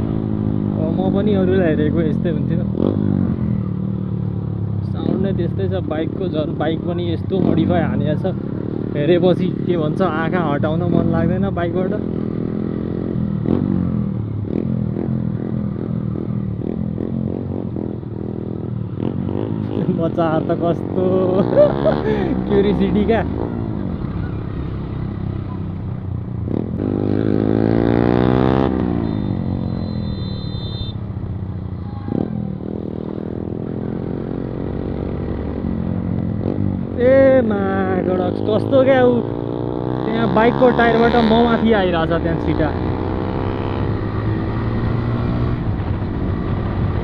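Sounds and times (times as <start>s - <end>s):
motorcycle engine running loudly: 0.0s - 47.0s.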